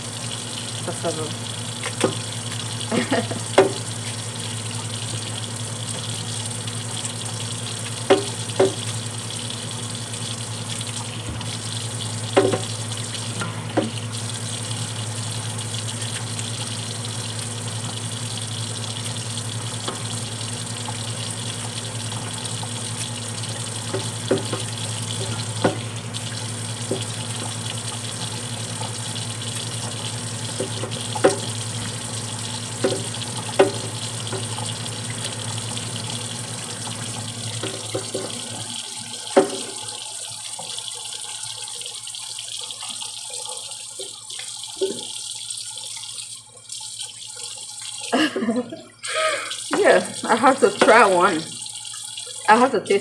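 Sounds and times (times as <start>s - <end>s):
tap water running into sink: 0.0s - 53.0s.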